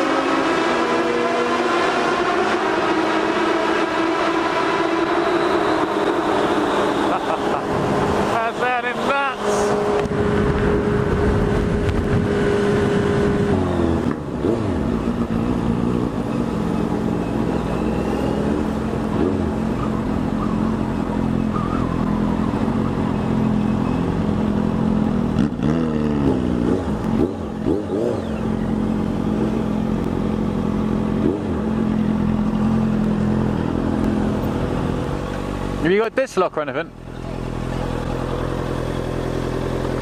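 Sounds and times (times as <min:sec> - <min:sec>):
motorcycle engine revving: 0:00.0 - 0:36.0, 0:36.9 - 0:40.0.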